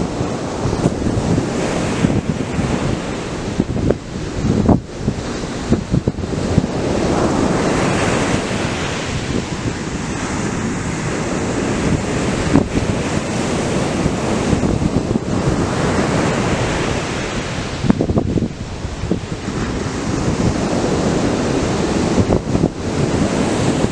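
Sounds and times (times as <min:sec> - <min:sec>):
surf breaking on beach: 0:00.0 - 0:23.9
wind buffeting microphone: 0:00.0 - 0:23.9.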